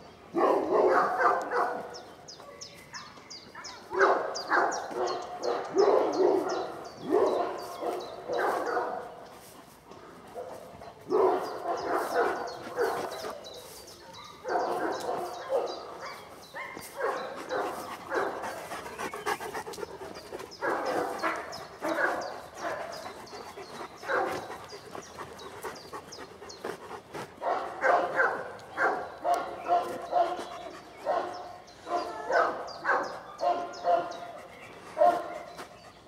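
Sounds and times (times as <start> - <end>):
large dogs barking: 0.0 - 36.0.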